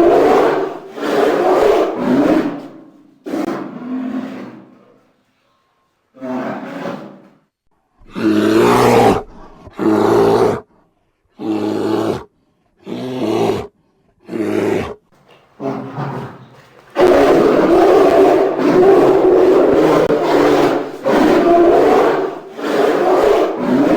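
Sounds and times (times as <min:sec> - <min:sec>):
bear roaring: 0:00.0 - 0:05.0, 0:06.2 - 0:07.3, 0:08.0 - 0:10.7, 0:11.4 - 0:15.0, 0:17.0 - 0:23.9.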